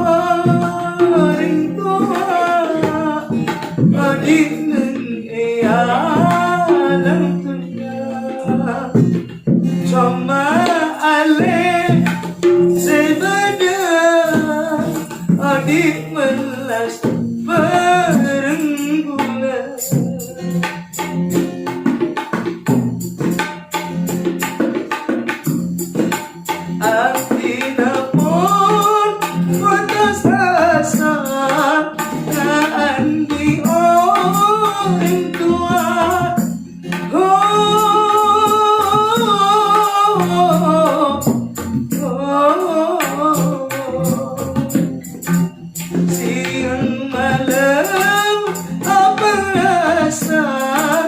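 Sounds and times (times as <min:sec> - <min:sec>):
hand drum strokes: 0:00.0 - 0:51.0
jingling percussion: 0:00.0 - 0:51.0.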